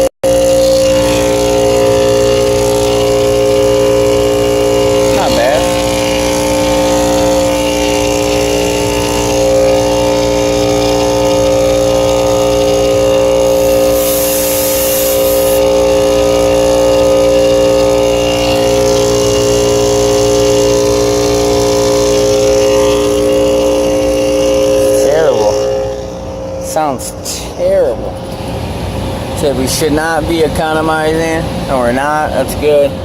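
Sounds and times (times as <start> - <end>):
compressor humming: 0.0 - 33.0.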